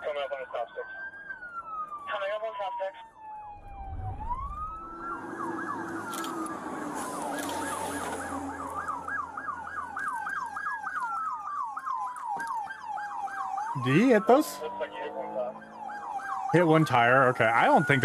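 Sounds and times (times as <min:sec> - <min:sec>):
police siren wailing: 0:00.0 - 0:18.0
police siren yelping: 0:00.0 - 0:18.0.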